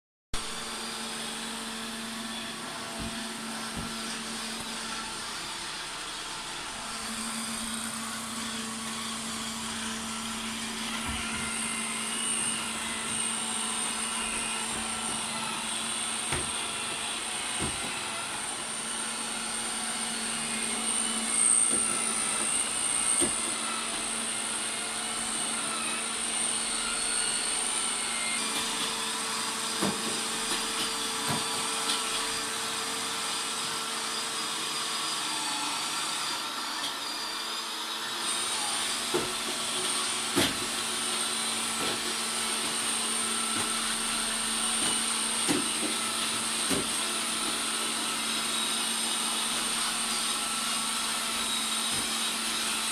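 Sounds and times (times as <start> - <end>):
robot vacuum motor humming: 0.6 - 52.9.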